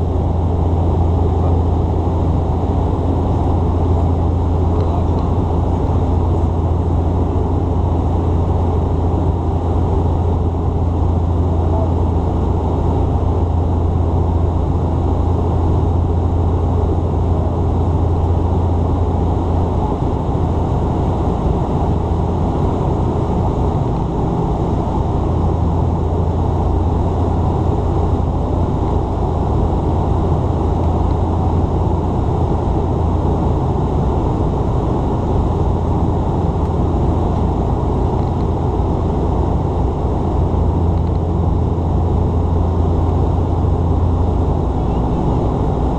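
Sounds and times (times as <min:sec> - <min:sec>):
turboprop engines droning in cabin: 0:00.0 - 0:45.9.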